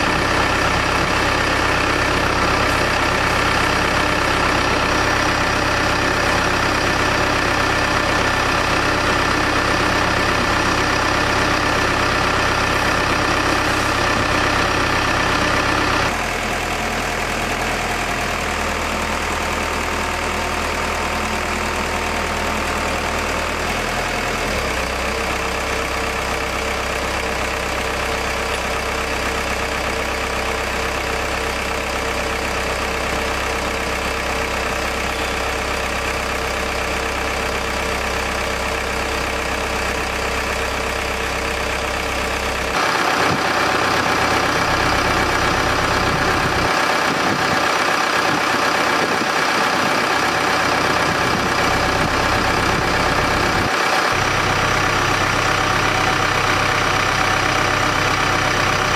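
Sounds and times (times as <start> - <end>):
engine idling: 0.0 - 58.9.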